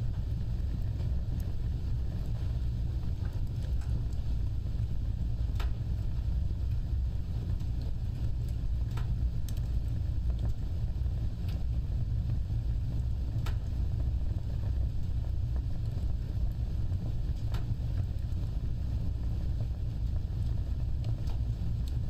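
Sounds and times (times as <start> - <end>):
fire crackling and popping: 0.0 - 22.0
fire flames rumbling: 0.0 - 22.0.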